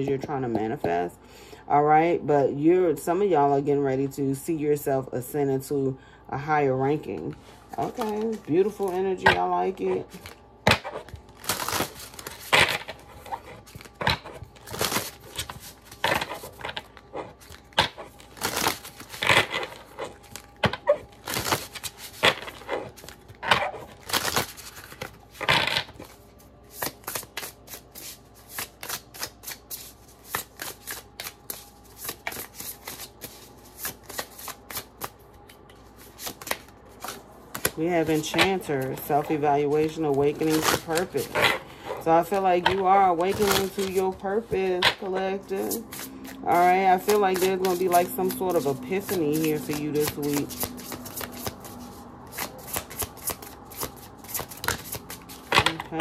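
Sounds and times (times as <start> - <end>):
cards being shuffled: 7.2 - 56.0.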